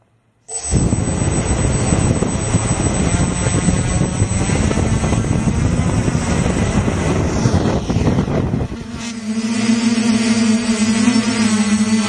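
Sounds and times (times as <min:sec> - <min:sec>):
drone propellers humming: 0:00.5 - 0:12.0.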